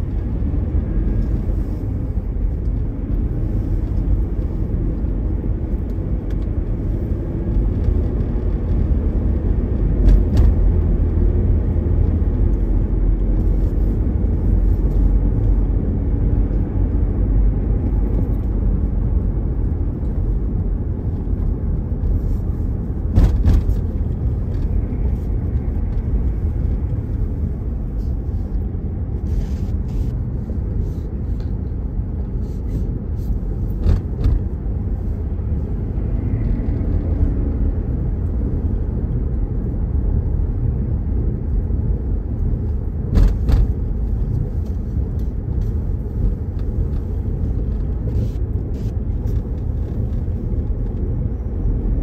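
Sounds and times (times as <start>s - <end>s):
car cabin road rumble: 0.0s - 52.0s.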